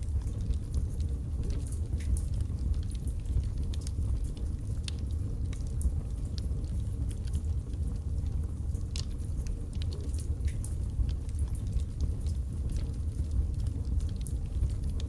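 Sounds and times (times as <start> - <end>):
low rumble of fire: 0.0 - 15.0
wood crackling and popping: 0.0 - 15.0.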